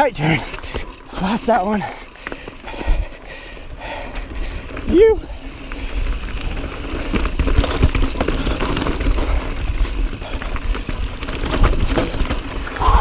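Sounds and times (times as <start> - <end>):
bike tyres crunching over rocks: 0.0 - 13.0.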